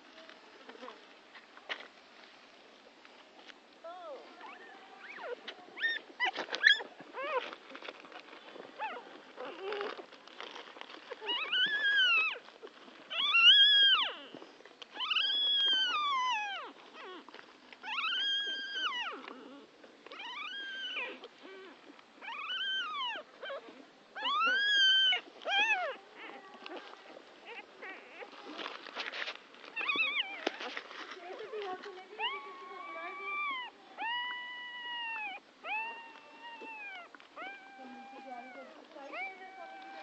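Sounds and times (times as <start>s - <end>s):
soft rustling: 0.0s - 40.0s
puppies whining: 3.9s - 28.9s, 29.7s - 40.0s.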